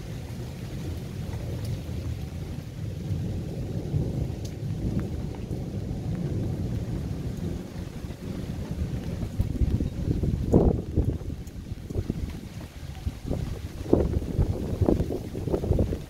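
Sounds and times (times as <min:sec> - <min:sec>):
rain falling: 0:00.0 - 0:16.0
thunder rumbling: 0:00.0 - 0:16.0.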